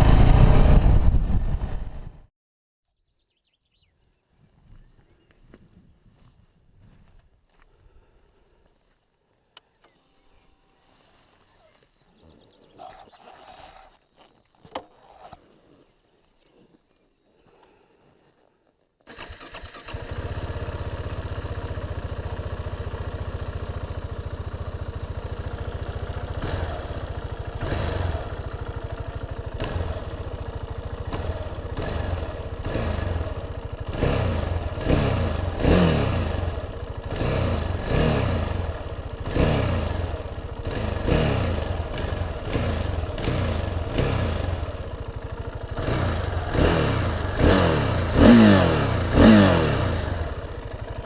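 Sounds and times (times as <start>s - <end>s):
motorcycle engine idling and revving: 0.0s - 2.3s, 4.8s - 15.8s, 18.4s - 51.0s.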